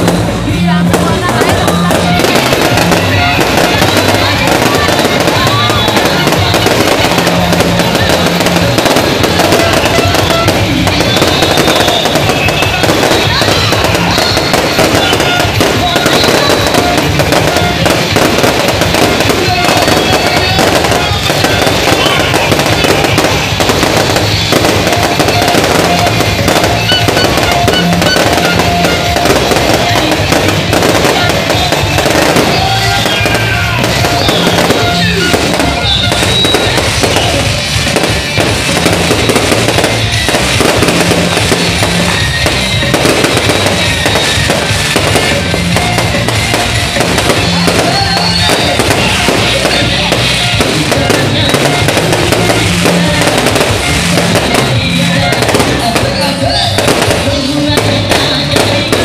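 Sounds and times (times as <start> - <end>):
background music: 0.0 - 59.0
fireworks bangs and crackling: 0.0 - 59.0.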